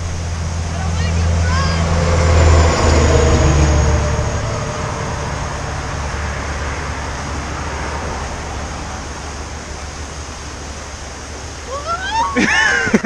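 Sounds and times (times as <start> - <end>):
heavy truck driving past: 0.0 - 10.6
steady rushing hiss: 0.0 - 13.0.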